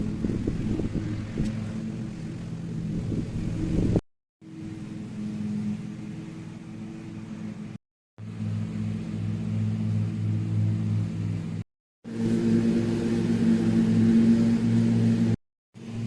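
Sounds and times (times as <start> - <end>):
steady engine hum: 0.0 - 16.0.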